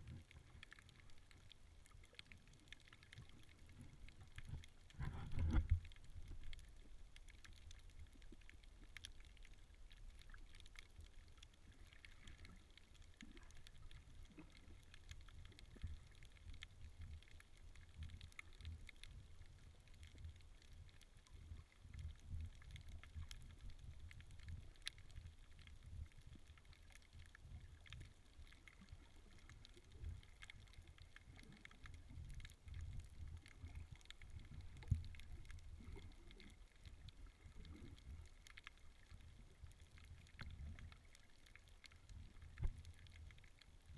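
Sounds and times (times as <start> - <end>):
faint underwater clicks: 0.0 - 43.9
underwater rumble of moving water: 0.0 - 43.9.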